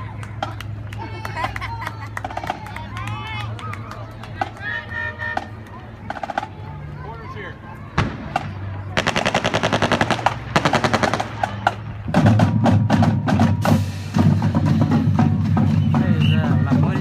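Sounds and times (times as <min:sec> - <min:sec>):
drumline beating a rolling cadence: 0:00.0 - 0:07.1, 0:07.9 - 0:17.0
marching band playing: 0:02.1 - 0:07.4, 0:08.0 - 0:17.0.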